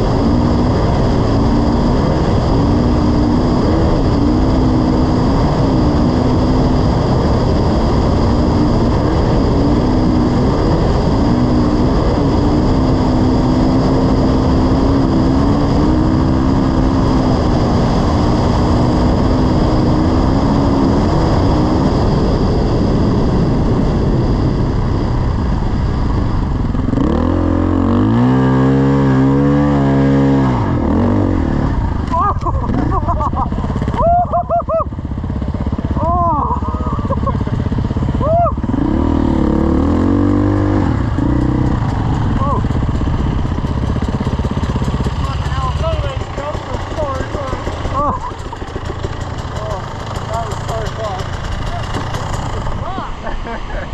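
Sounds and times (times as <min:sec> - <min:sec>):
dirt bike engine revving: 0:00.0 - 0:24.4, 0:26.6 - 0:53.9
heavy rushing noise: 0:00.0 - 0:53.9.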